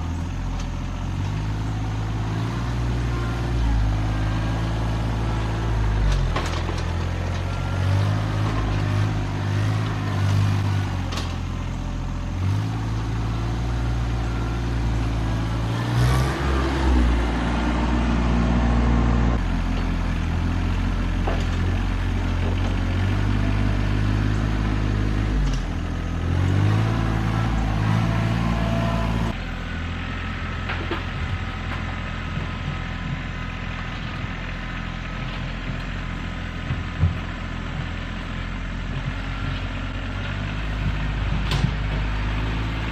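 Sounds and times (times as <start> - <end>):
tractor diesel engine revving: 0.0 - 42.9.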